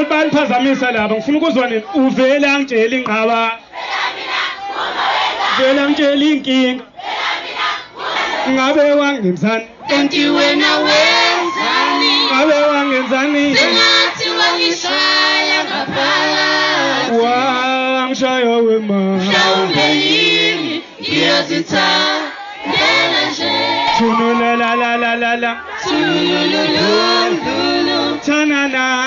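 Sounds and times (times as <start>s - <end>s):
group singing through a pa: 3.6s - 8.7s, 9.8s - 29.0s.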